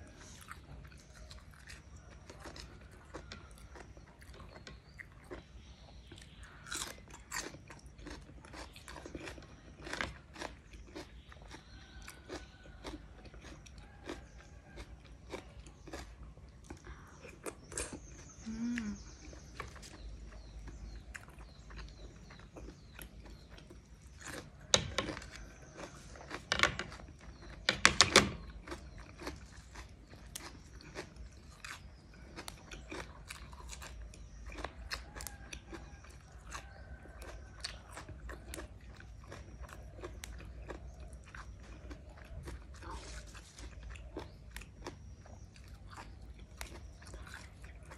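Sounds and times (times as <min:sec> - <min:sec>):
person chewing and crunching: 0:00.0 - 0:47.9.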